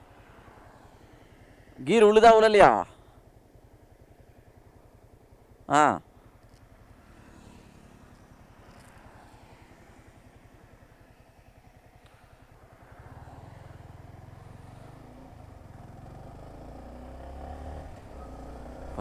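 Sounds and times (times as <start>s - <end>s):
motorcycle engine running: 2.9s - 19.0s.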